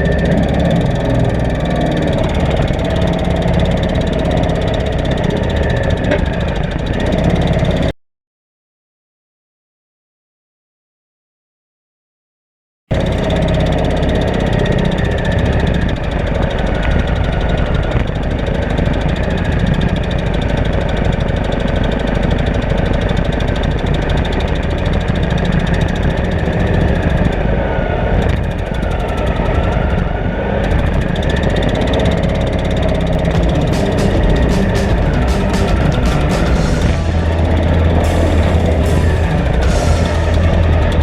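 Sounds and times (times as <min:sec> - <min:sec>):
off-road vehicle engine running: 0:00.0 - 0:07.9, 0:12.9 - 0:41.0.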